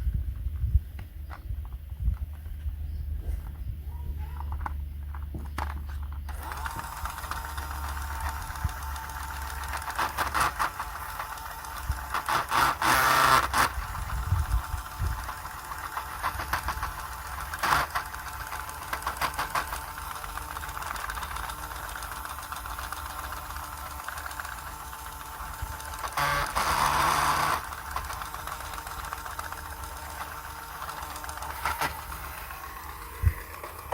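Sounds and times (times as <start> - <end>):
clicking and rattling: 0.0 - 32.4
small electric motor humming: 2.9 - 33.9.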